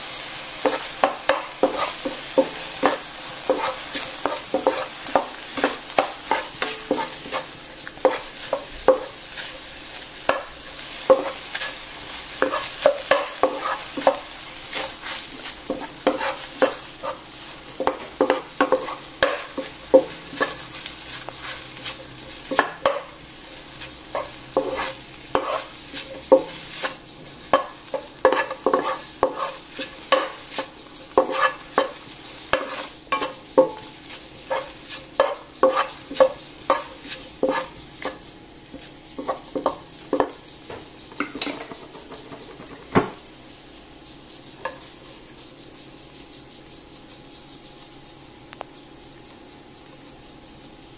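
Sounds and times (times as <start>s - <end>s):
spatula scraping a wok: 0.0s - 42.9s
food sizzling: 0.0s - 50.9s.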